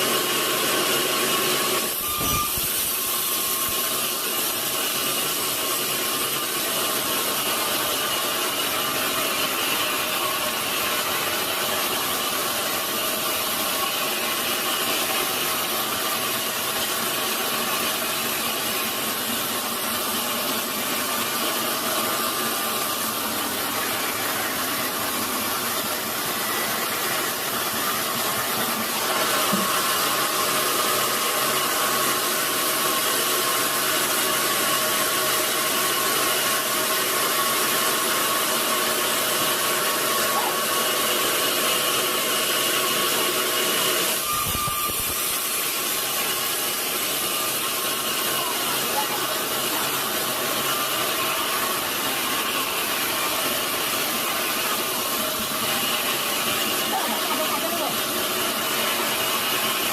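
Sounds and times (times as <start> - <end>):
saw cutting through log: 0.0 - 59.9.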